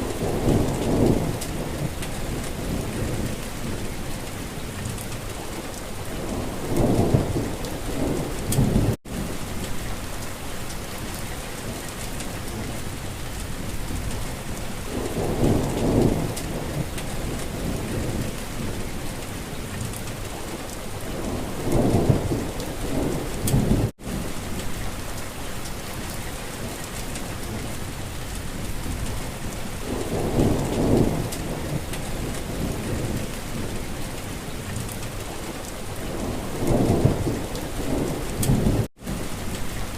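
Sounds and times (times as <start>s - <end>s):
low thunder rumbles: 0.0s - 10.2s, 13.6s - 25.2s, 26.0s - 39.9s
steady rain falling: 0.0s - 39.9s.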